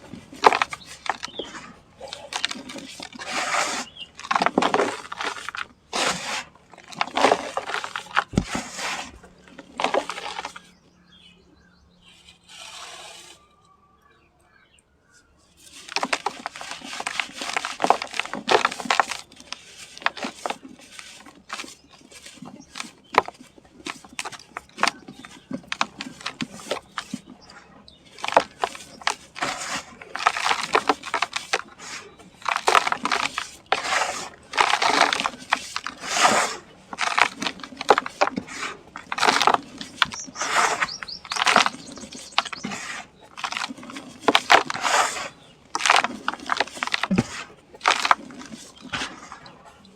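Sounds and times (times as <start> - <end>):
cement chunks crunching: 0.0 - 10.7, 15.6 - 49.9.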